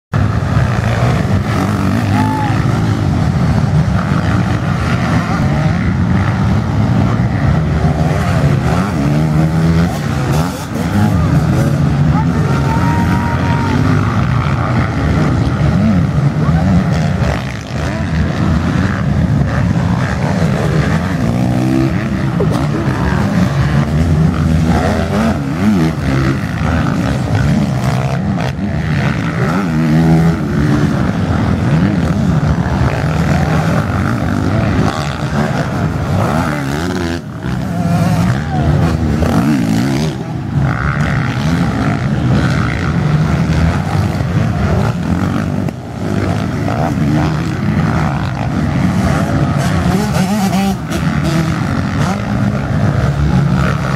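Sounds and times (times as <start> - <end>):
dirt bike engines revving: 0.1 - 53.9.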